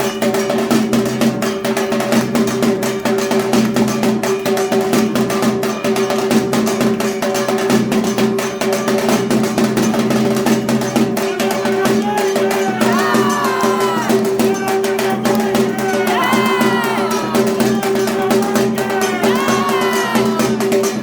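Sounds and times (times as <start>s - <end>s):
drums beaten in fast rhythm: 0.0s - 21.0s.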